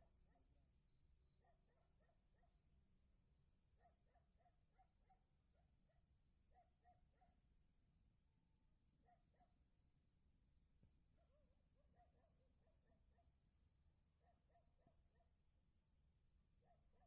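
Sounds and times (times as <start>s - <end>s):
night insect chorus: 0.0s - 17.0s.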